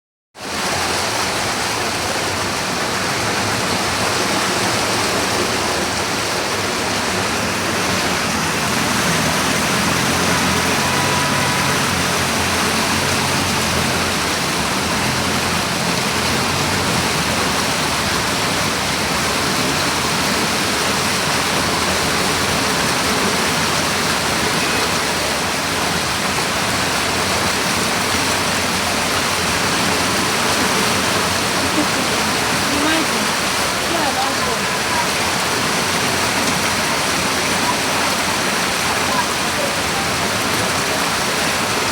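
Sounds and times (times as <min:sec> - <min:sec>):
floodwater rushing: 0:00.4 - 0:41.9.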